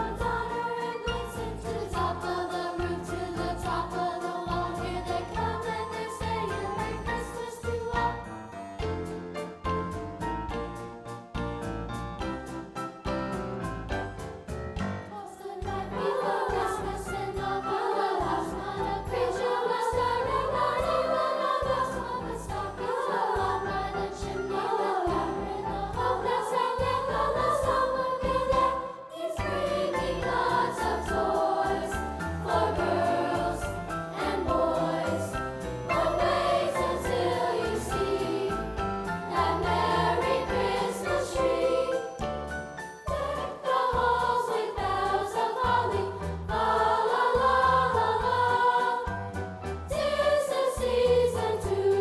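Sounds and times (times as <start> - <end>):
children's choir singing: 0.0 - 8.6, 14.9 - 52.0
musical accompaniment: 0.0 - 52.0.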